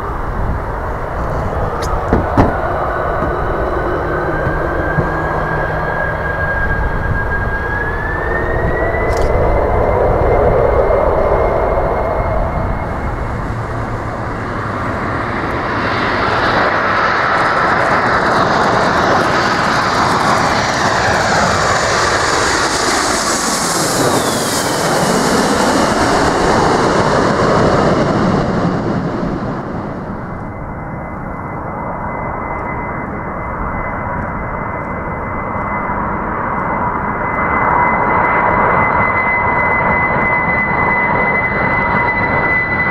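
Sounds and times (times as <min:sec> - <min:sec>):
jet engines spooling up: 0:00.0 - 0:42.9
jet plane passing close by: 0:00.0 - 0:42.9.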